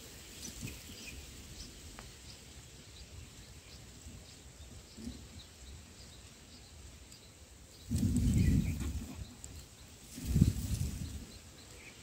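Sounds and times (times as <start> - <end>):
outdoor background rumble: 0.0 - 12.0
small birds chirping: 0.0 - 12.0.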